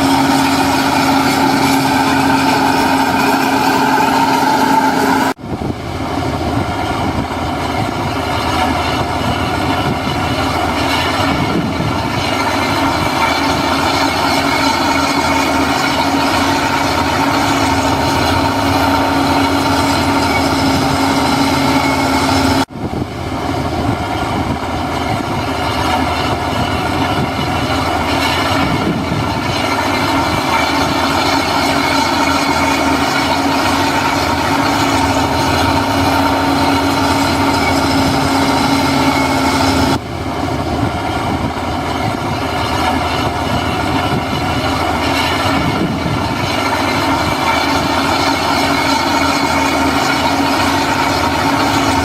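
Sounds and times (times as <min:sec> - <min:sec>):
diesel engine running steadily: 0:00.0 - 0:52.0.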